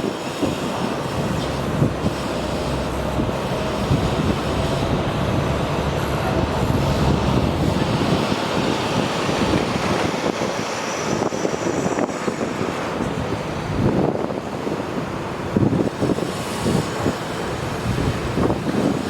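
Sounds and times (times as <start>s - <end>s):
vehicle rumbling: 0.0s - 19.0s.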